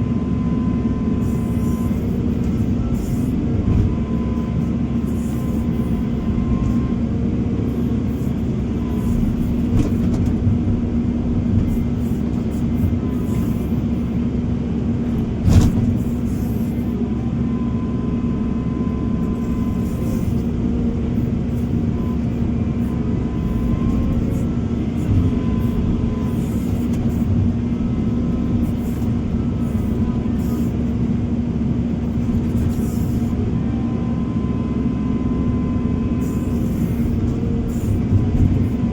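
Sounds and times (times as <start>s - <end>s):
construction machinery engine drone: 0.0s - 38.9s.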